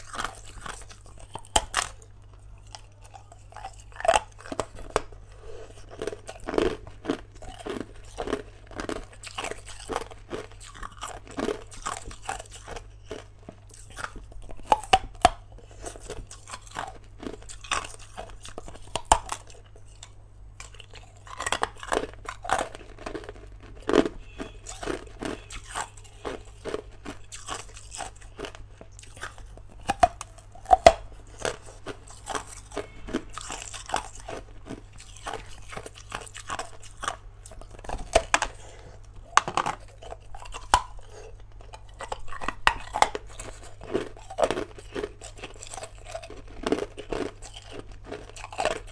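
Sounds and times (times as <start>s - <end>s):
faint low hum: 0.0s - 48.9s
ice crunching between teeth: 0.0s - 48.9s.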